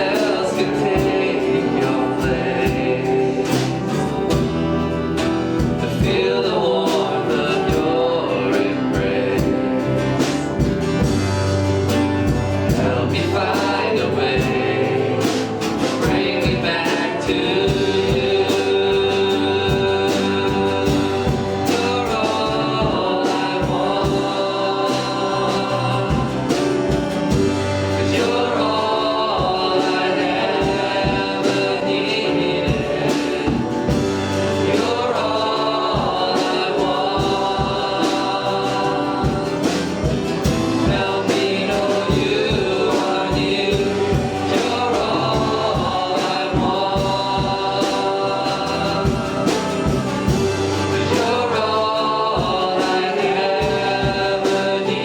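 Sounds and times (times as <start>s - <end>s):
worship singing with band: 0.0s - 55.0s.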